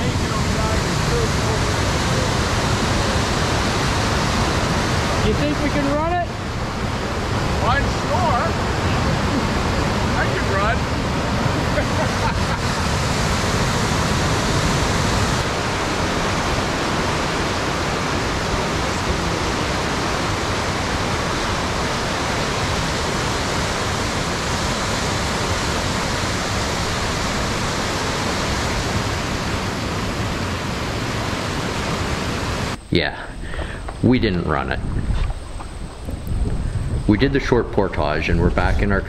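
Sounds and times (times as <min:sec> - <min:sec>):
river rapids roaring: 0:00.0 - 0:37.8.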